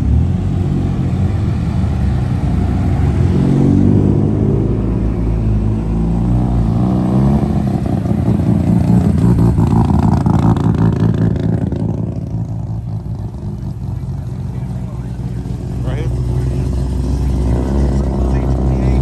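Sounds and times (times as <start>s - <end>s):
car engine running low revs: 0.0s - 19.0s.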